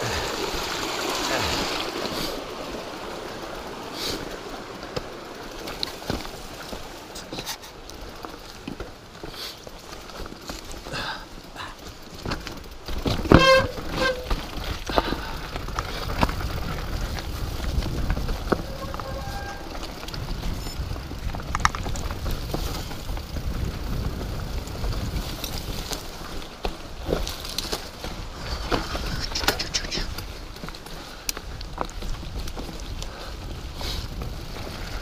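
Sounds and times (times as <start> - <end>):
bike rattling over bumps: 0.0 - 35.0
bike tyres rolling over stones: 0.0 - 35.0.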